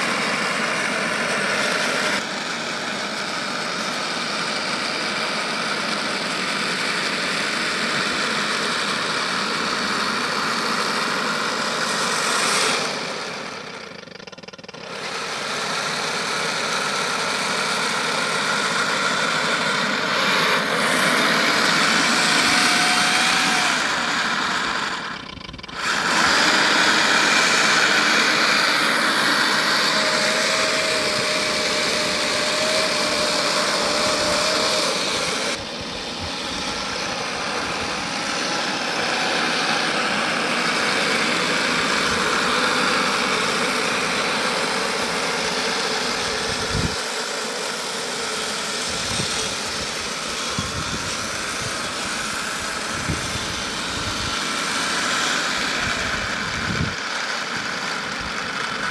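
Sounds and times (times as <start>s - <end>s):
model tank motor whir: 0.0s - 58.9s.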